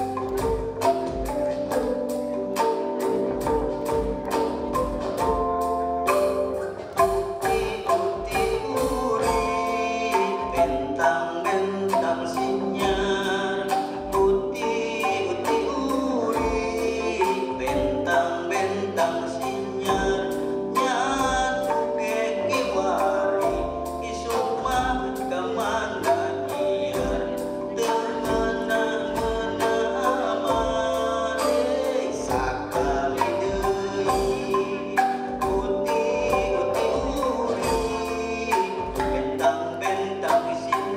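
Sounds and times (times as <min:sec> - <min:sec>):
bamboo tubes struck with mallets: 0:00.0 - 0:40.9
bass guitar: 0:00.0 - 0:40.9
percussion beat: 0:00.0 - 0:40.9
person singing: 0:00.0 - 0:40.9.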